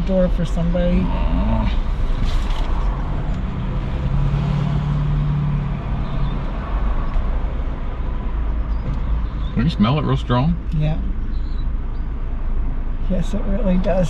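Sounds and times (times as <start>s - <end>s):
idling vehicles rumble: 0.0s - 14.0s.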